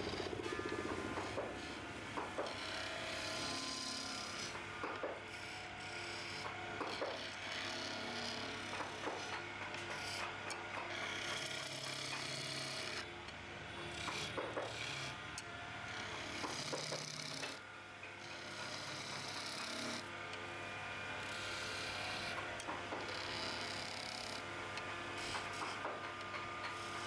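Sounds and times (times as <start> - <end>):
chisel scraping wood on lathe: 0.0 - 13.1, 13.9 - 15.2, 15.9 - 17.6, 18.2 - 20.1, 21.2 - 27.0
lathe motor hum: 0.0 - 27.0.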